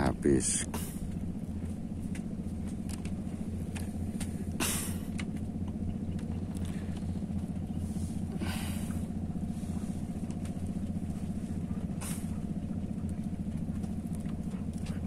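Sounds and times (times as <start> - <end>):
small engine droning: 0.0 - 15.0.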